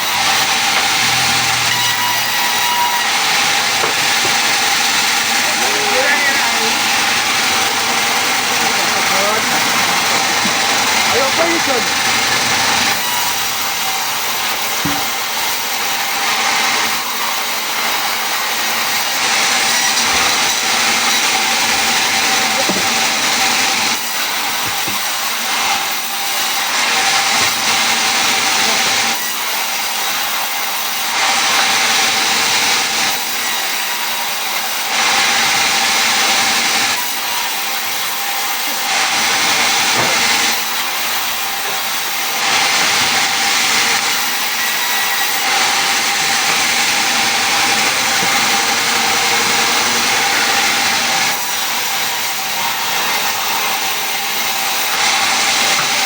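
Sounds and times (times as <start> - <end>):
power tool cutting wood: 0.0 - 56.0.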